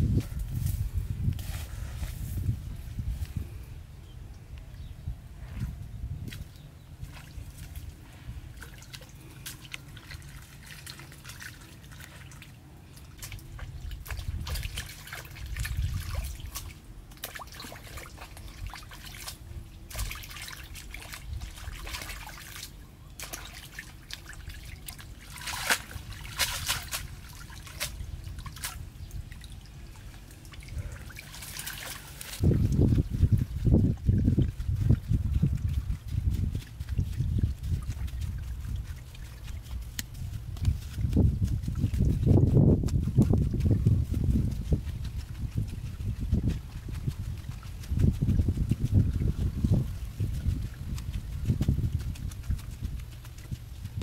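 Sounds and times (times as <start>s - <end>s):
water splashing: 7.0s - 54.0s
water dripping through basket: 8.5s - 54.0s.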